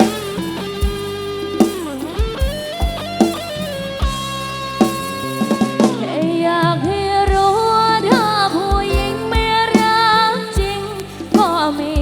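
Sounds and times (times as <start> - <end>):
bass: 0.0 - 12.0
electric guitar lead: 0.0 - 12.0.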